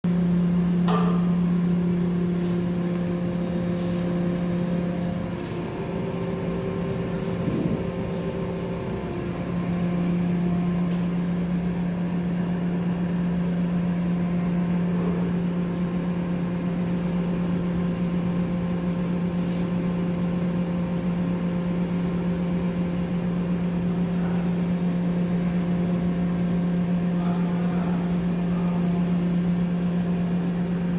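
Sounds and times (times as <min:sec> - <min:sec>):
air compressor humming: 0:00.0 - 0:30.9.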